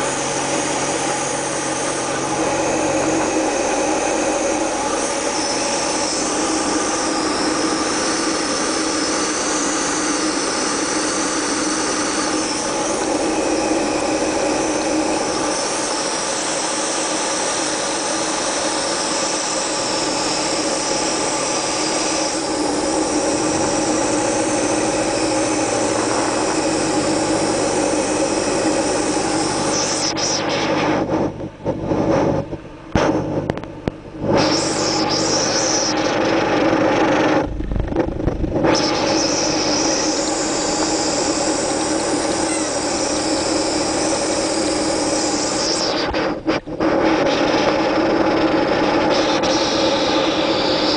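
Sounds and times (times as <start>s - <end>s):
light aircraft cabin drone: 0.0s - 50.9s.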